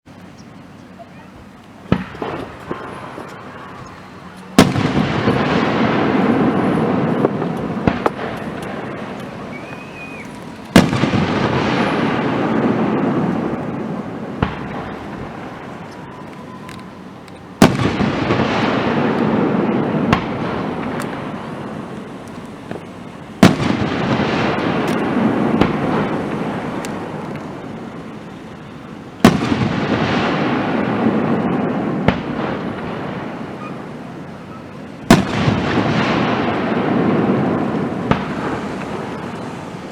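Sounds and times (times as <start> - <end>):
rushing noise with crackling pops: 0.1 - 39.9
fireworks bangs: 0.9 - 39.9.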